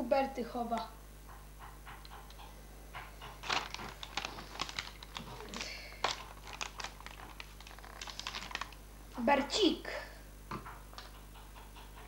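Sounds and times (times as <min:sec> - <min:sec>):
low mains hum: 0:00.0 - 0:12.0.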